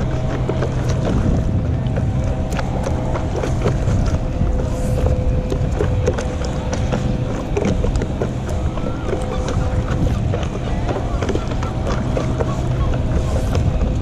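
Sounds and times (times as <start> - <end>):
paddle splashing water: 0.0 - 14.0
wind buffeting microphone: 0.0 - 14.0.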